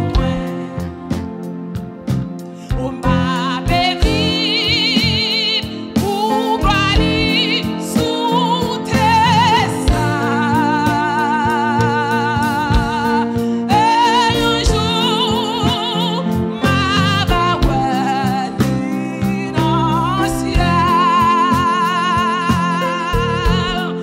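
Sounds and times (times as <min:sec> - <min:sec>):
woman singing a hymn: 0:00.0 - 0:01.3, 0:02.6 - 0:24.0
instrumental accompaniment: 0:00.0 - 0:24.0.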